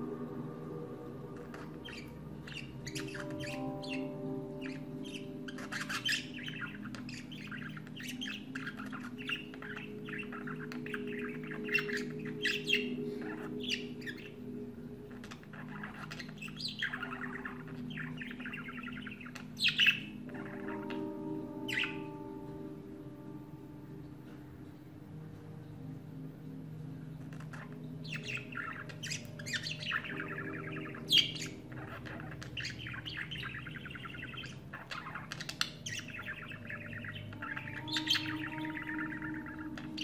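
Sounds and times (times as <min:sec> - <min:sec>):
budgerigar warbling: 0:01.4 - 0:22.4, 0:27.2 - 0:40.0.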